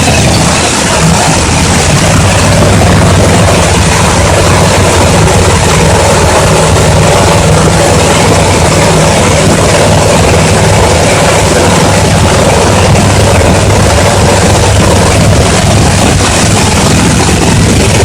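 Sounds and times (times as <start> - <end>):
jet engine roaring: 0.0 - 18.0
low hum: 0.0 - 18.0.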